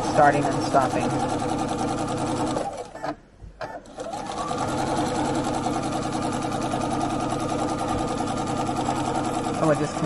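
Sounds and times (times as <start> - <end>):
sewing machine running: 0.0 - 3.0, 3.8 - 10.0.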